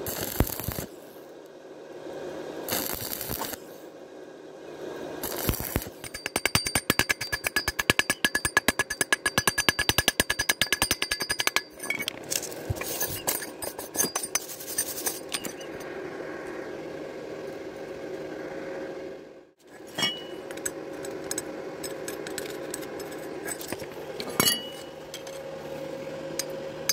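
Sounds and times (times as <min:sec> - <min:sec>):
low steady hum: 0:00.0 - 0:26.9.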